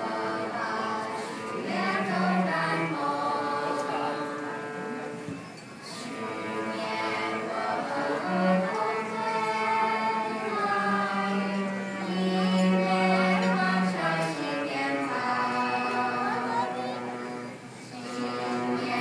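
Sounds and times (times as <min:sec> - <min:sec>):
girls choir singing: 0:00.0 - 0:19.0.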